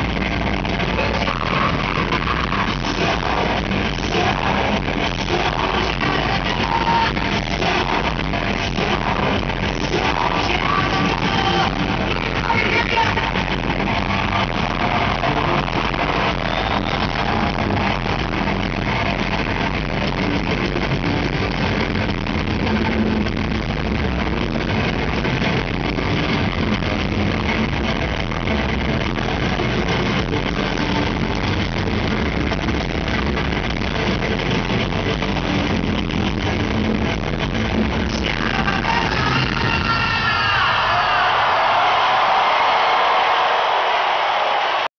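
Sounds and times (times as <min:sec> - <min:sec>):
live heavy metal band: 0:00.0 - 0:42.3.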